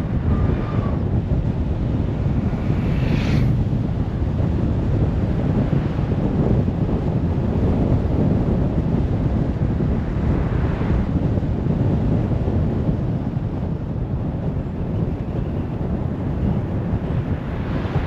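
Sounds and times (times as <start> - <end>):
car road noise rumble: 0.0 - 18.0
wind buffeting microphone: 0.0 - 18.0.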